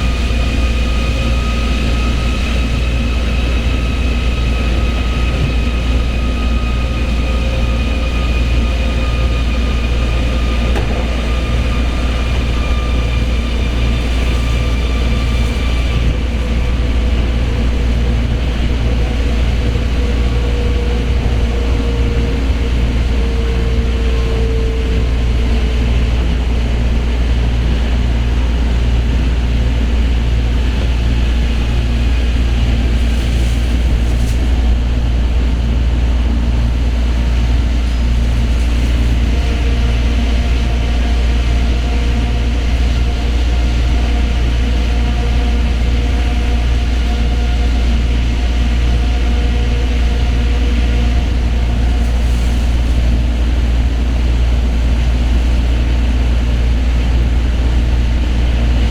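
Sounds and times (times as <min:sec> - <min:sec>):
train low rumble: 0:00.0 - 0:58.9.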